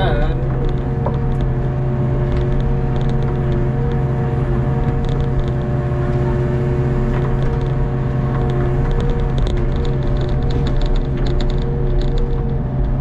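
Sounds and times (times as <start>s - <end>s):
excavator engine whining: 0.0s - 13.0s.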